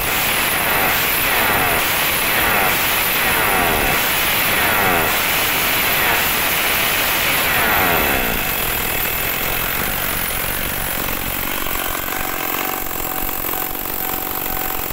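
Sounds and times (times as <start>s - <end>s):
chainsaw engine running: 0.0s - 14.9s.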